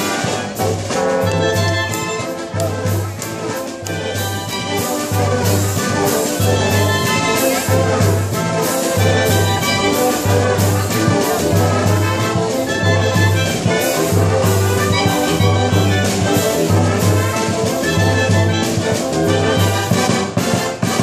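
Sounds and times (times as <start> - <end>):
bass drum and cymbals: 0.0 - 21.0
brass band playing: 0.0 - 21.0.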